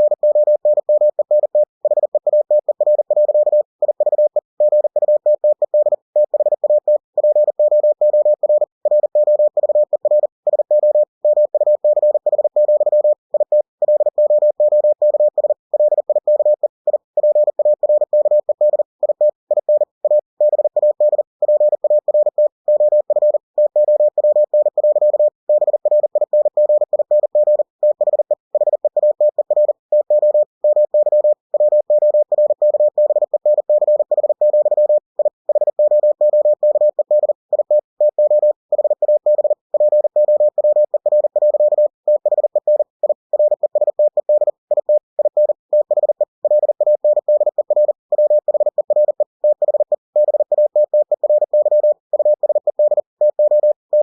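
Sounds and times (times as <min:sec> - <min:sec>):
morse code beeps: 0:00.0 - 0:54.0.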